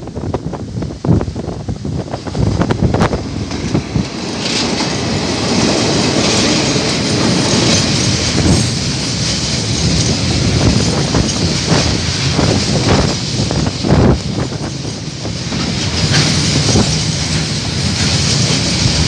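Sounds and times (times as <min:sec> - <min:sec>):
diesel locomotives passing: 0:00.0 - 0:19.0
wagons rumbling over track: 0:00.0 - 0:19.0
wheels clacking over rail joints: 0:02.0 - 0:19.0.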